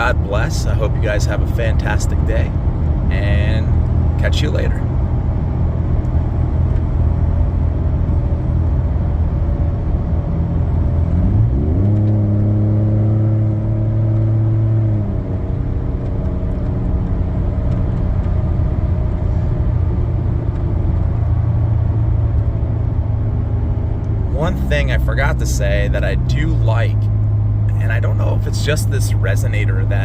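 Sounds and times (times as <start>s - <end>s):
truck engine humming while driving: 0.0s - 30.0s.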